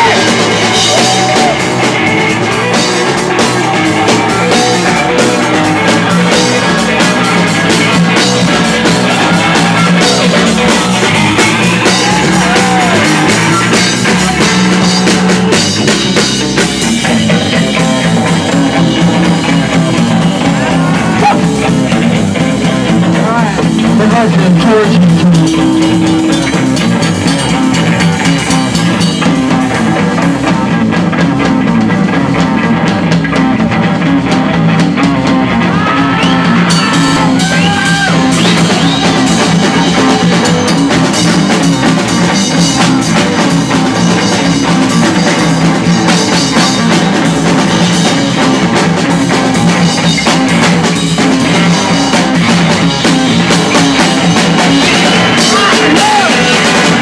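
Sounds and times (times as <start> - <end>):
drum kit with cymbals: 0.0 - 57.0
electric guitar: 0.0 - 57.0
live rock band playing: 0.0 - 57.0.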